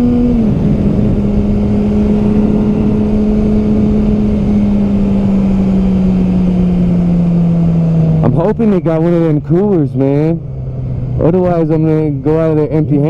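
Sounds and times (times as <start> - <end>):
motorcycle engine at steady revs: 0.0 - 13.0
wind noise: 0.0 - 13.0.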